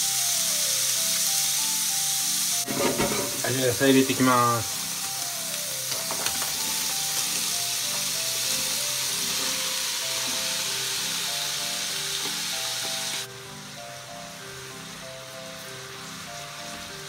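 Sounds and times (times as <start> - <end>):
food sizzling in a frying pan: 0.0 - 17.0
light background tune: 0.0 - 17.0.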